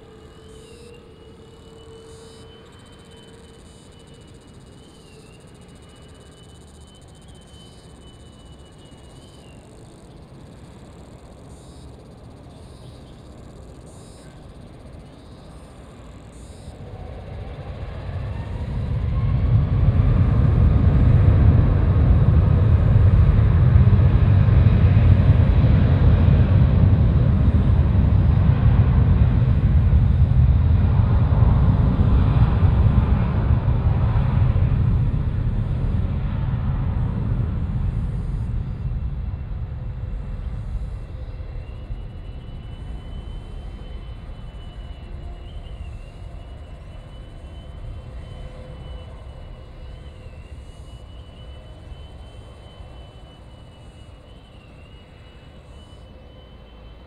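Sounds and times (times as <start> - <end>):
faint distant hum: 0.0 - 57.0
jet engines spooling up: 0.0 - 57.0.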